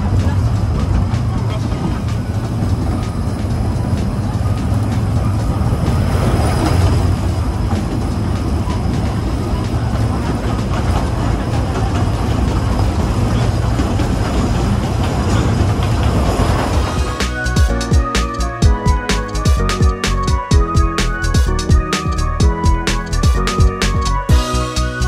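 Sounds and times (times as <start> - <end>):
wheels rumbling on rails: 0.0 - 25.0.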